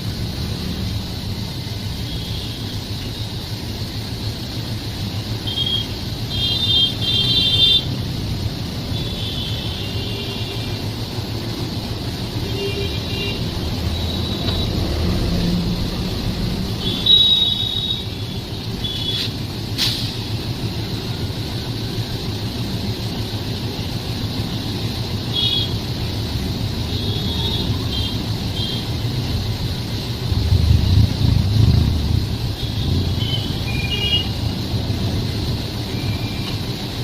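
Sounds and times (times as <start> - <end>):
train rumbling: 4.0 - 37.0.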